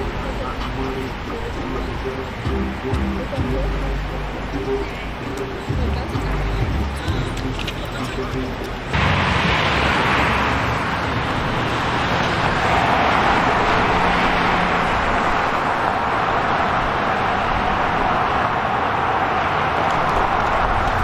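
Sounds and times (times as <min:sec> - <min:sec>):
car tyre and engine noise: 0:00.0 - 0:21.0.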